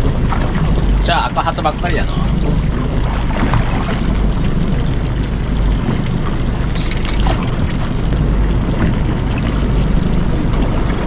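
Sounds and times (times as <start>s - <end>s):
low rumble: 0.0s - 11.0s
water lapping against boat hull: 0.0s - 11.0s.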